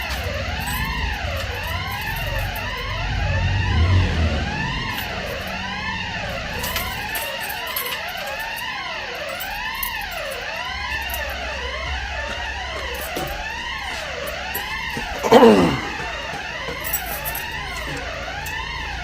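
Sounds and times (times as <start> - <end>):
alarm siren sweeping: 0.0 - 19.0.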